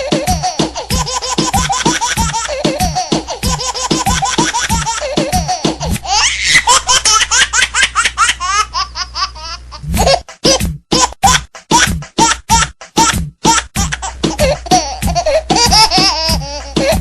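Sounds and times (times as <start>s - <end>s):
laughter ringtone music: 0.0s - 17.0s.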